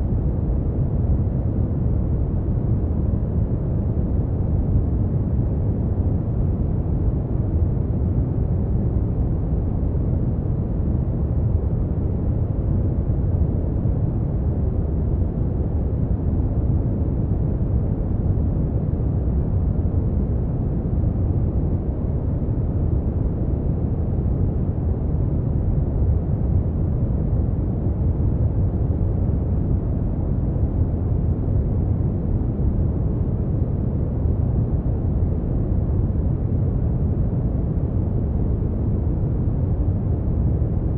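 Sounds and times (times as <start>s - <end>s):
deep rumbling brown noise: 0.0s - 40.9s.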